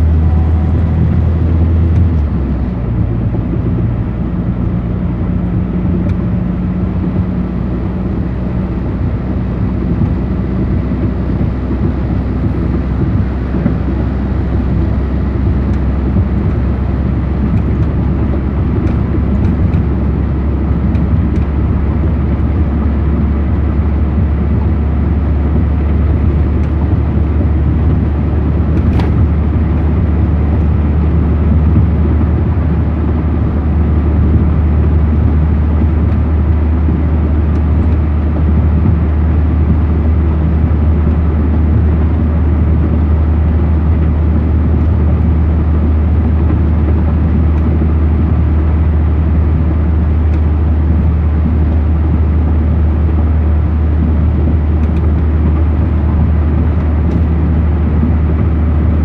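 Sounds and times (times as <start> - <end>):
car cabin road and engine drone: 0.0 - 59.0.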